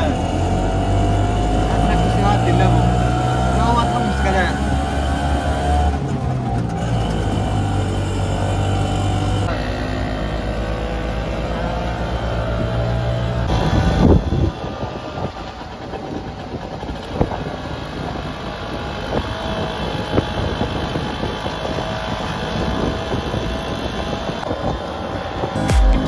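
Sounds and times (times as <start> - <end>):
auto-rickshaw engine running: 0.0 - 26.0.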